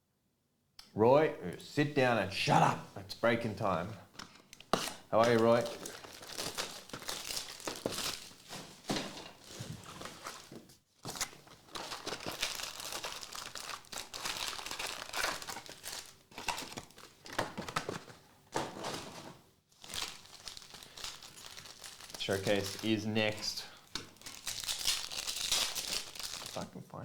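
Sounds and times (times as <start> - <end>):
foil wrappers crinkling and tearing: 4.6 - 26.7.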